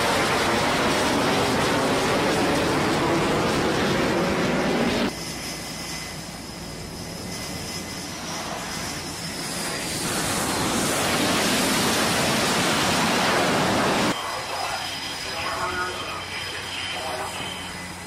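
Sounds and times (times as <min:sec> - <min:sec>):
fighter jet engines: 0:00.0 - 0:18.0.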